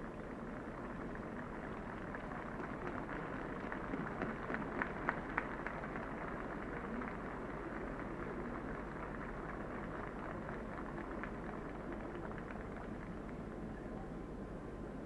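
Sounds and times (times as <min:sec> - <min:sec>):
muffled crowd noise: 0:00.0 - 0:15.0
scattered clapping: 0:00.6 - 0:13.6.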